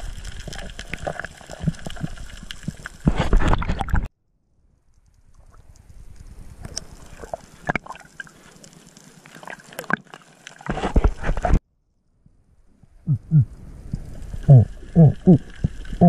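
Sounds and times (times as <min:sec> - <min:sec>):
water sloshing and gurgling: 0:00.0 - 0:04.1, 0:05.0 - 0:11.7, 0:12.7 - 0:16.0
clicks and crackles: 0:00.0 - 0:16.0.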